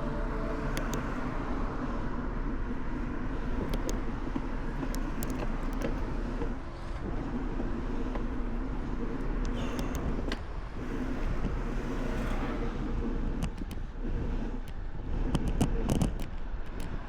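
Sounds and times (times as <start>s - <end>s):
bicycle road and wind noise: 0.0s - 17.0s.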